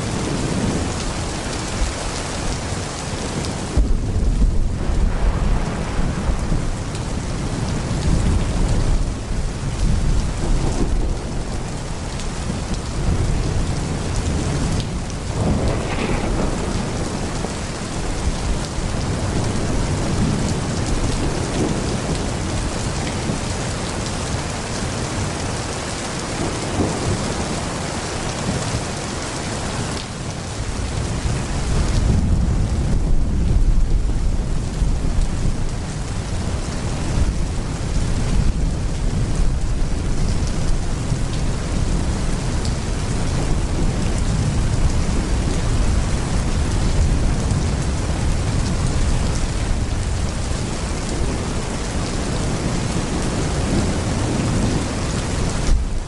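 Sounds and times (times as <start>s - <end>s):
heavy pouring rain: 0.0s - 56.0s
thunder rumbling: 0.0s - 56.0s.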